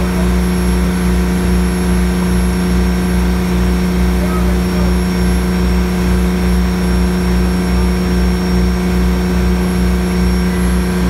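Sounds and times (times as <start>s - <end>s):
boat engine droning: 0.0s - 11.0s
water rushing from wake: 0.0s - 11.0s.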